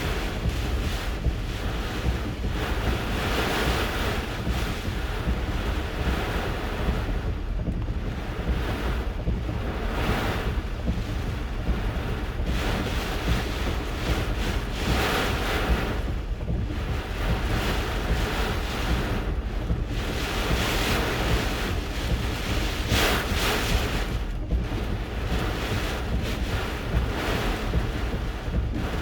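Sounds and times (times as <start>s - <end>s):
low rumble of wind: 0.0s - 29.0s
wind blowing in gusts: 0.0s - 29.0s.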